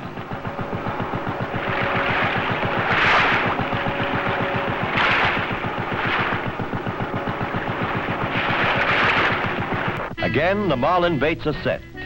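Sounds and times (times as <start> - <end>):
rushing water and spray: 0.0 - 10.1
boat engine throbbing: 0.0 - 10.9.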